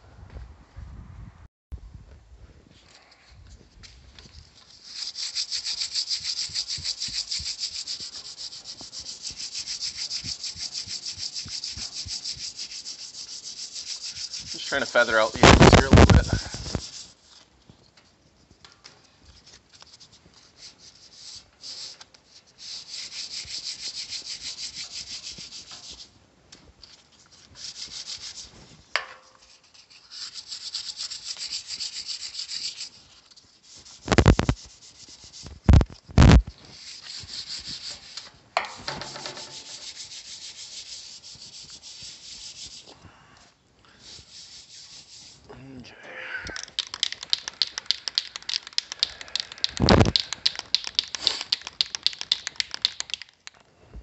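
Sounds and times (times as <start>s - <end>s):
hand sanding on steel: 4.6s - 17.4s, 19.4s - 26.2s, 27.2s - 43.0s, 44.0s - 45.5s, 46.6s - 53.3s.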